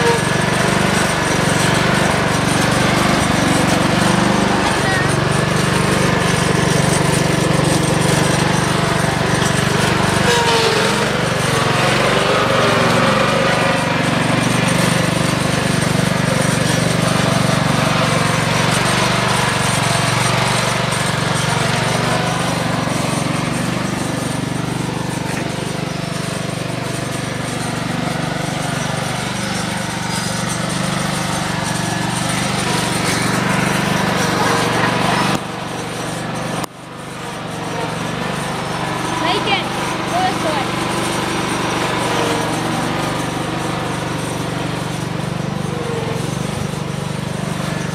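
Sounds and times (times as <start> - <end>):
riding lawn mower engine: 0.0 - 47.9.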